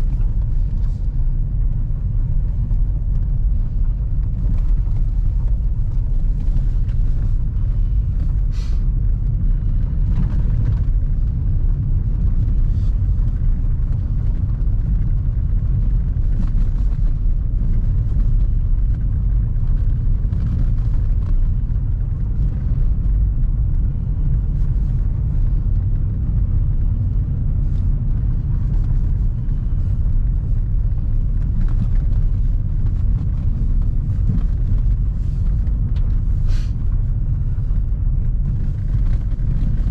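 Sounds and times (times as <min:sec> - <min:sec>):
car interior rumble: 0:00.0 - 0:39.9.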